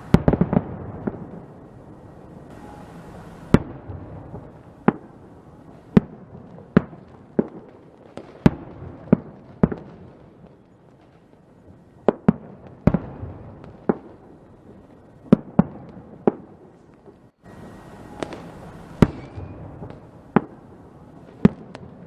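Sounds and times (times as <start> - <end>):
faint hiss: 0.0 - 22.0
fireworks bangs: 0.0 - 22.0.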